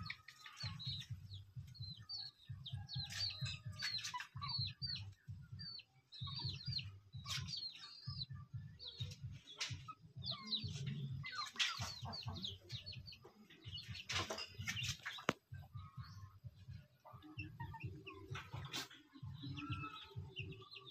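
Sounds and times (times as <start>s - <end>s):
chickens clucking: 0.0s - 20.9s
chicks peeping: 0.0s - 20.9s.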